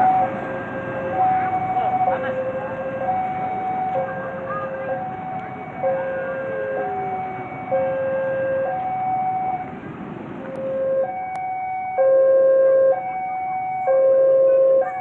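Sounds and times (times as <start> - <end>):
level crossing two-tone alarm: 0.0 - 9.7, 10.5 - 15.0.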